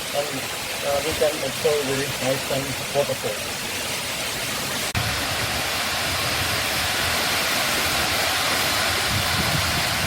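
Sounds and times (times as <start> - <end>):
waterfall rushing into pool: 0.0 - 10.0.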